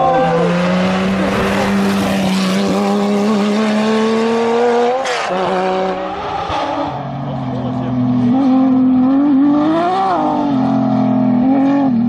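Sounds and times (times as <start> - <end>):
rally car engine passing: 0.0 - 12.0.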